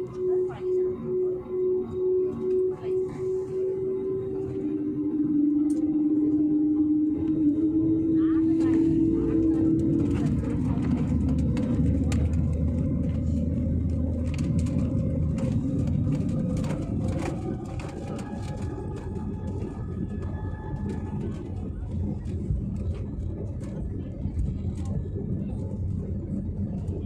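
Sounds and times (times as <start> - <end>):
jet engines rumbling in cabin: 0.0 - 27.0.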